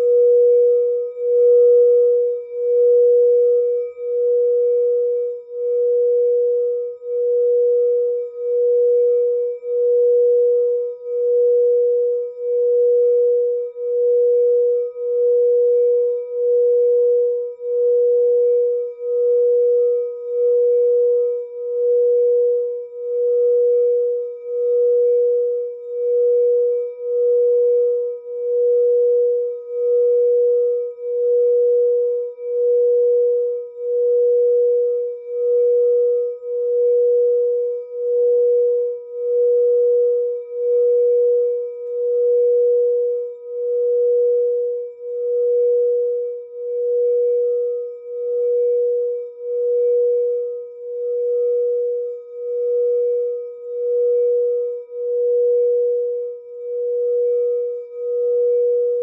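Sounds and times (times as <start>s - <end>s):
singing bowl ringing: 0.0s - 59.0s.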